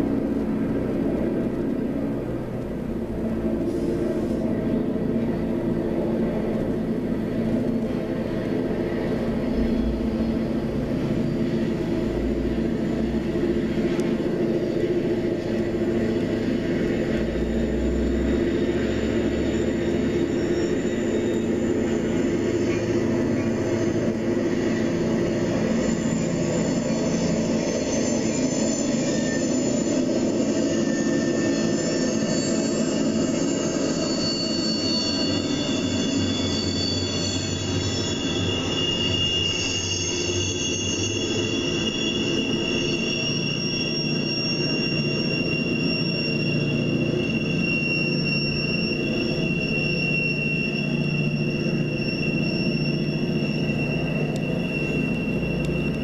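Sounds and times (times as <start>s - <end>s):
diesel locomotive engines droning: 0.0s - 56.0s
steel wheel squeal: 0.0s - 56.0s.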